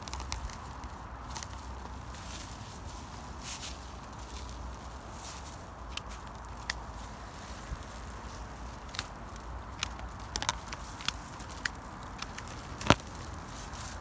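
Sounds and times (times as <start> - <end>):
light clicks and crackles of twigs: 0.0 - 14.0.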